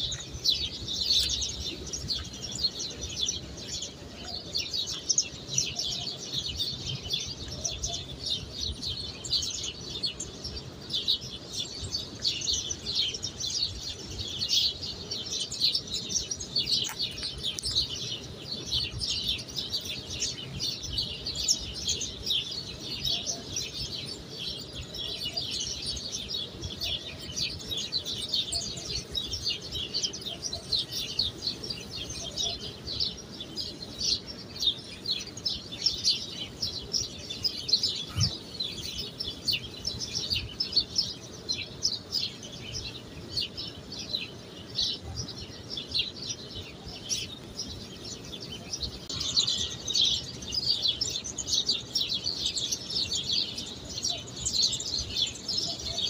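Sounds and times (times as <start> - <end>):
birds chirping chorus: 0.0 - 56.0.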